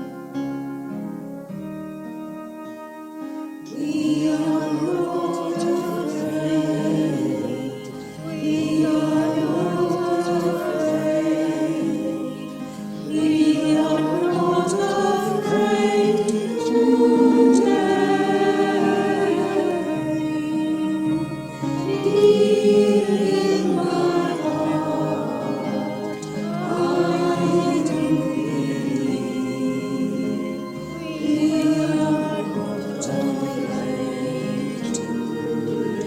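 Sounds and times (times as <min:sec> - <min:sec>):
keyboard: 0:00.0 - 0:36.0
choir singing a hymn: 0:03.2 - 0:36.0.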